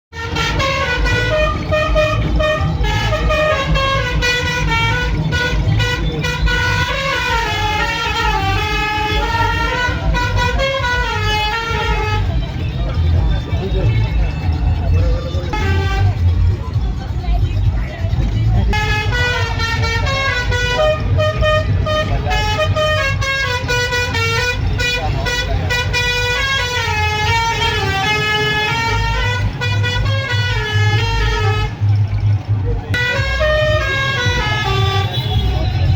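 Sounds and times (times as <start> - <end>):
bus musical horn: 0.1 - 35.9
low vehicle rumble: 0.1 - 35.9.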